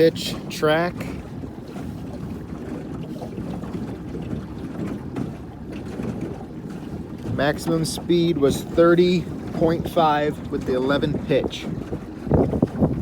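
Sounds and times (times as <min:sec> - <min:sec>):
outboard motor running: 0:00.0 - 0:13.0
water noise: 0:00.0 - 0:13.0
wind buffeting microphone: 0:00.0 - 0:13.0.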